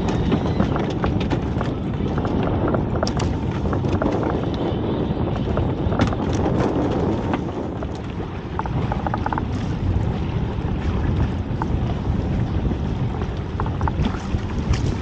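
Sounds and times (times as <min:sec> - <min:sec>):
choppy water against hull: 0:00.0 - 0:15.0
wind buffeting microphone: 0:00.0 - 0:15.0.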